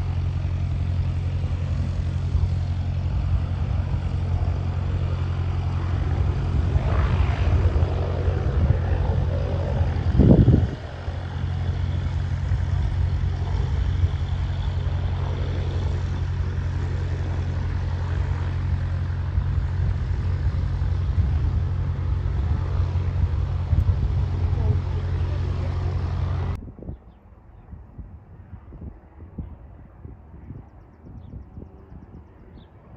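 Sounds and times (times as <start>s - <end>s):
loud low rumble: 0.0s - 26.7s
propeller airplane engine droning: 0.0s - 32.9s.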